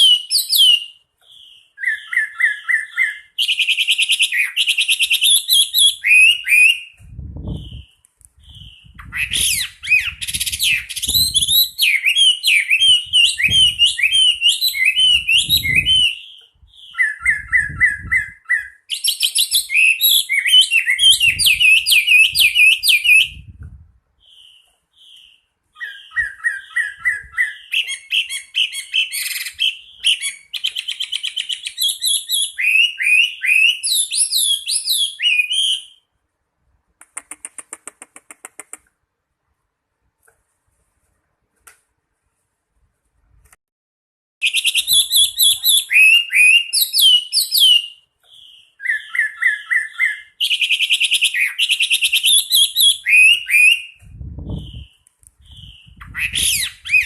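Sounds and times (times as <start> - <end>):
bird singing whistled notes: 0.0 - 23.6, 24.2 - 36.1, 44.4 - 57.0.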